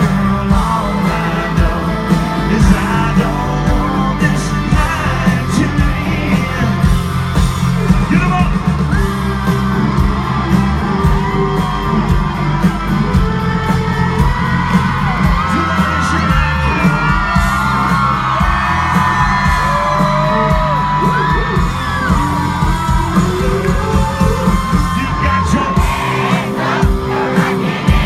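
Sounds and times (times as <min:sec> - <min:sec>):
crowd whooping and yelling: 0:00.0 - 0:28.0
live country band playing: 0:00.0 - 0:28.0.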